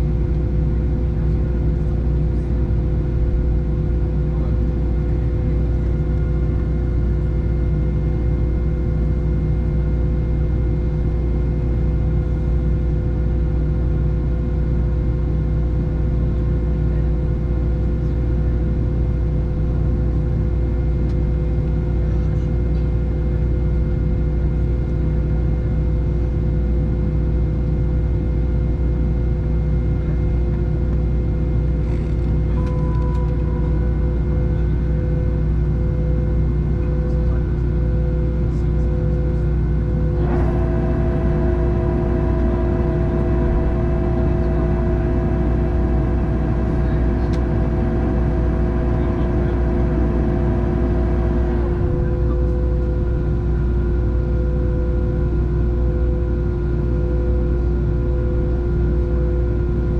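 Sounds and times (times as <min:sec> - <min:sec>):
constant whining tones: 0:00.0 - 0:59.9
jet engine cabin drone: 0:00.0 - 0:59.9.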